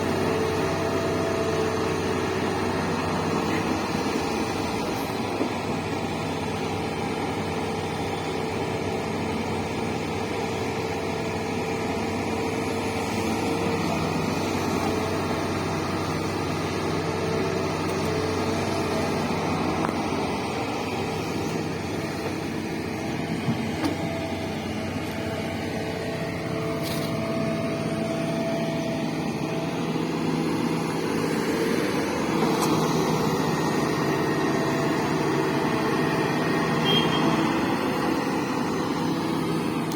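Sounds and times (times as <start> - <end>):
diesel engine of earthmoving machine: 0.0 - 39.9.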